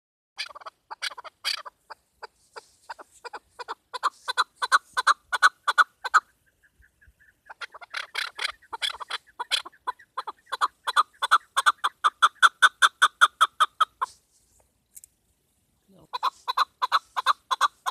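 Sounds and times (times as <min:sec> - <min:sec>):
partridge rapid clucking: 0:00.4 - 0:14.2, 0:16.0 - 0:17.9.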